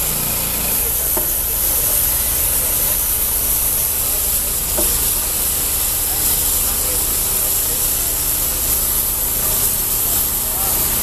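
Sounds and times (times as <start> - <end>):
high hiss: 0.0 - 11.0
sawmill engine drone: 0.0 - 11.0.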